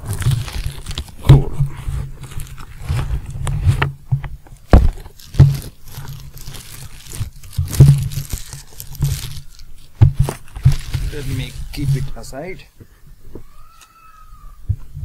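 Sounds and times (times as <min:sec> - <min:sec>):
cardboard and paper rustling: 0:00.0 - 0:12.7.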